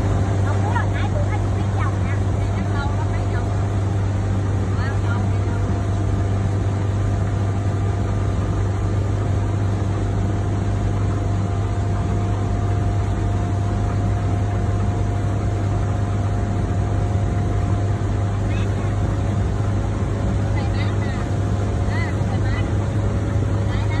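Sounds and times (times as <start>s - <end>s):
motorboat engine droning: 0.0s - 24.0s.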